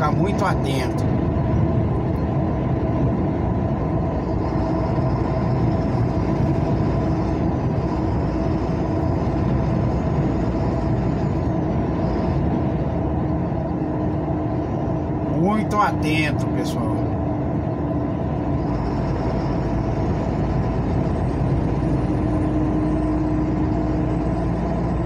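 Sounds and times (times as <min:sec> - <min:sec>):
steady tonal hum: 0:00.0 - 0:25.0
vehicle engine and road noise: 0:00.0 - 0:25.0.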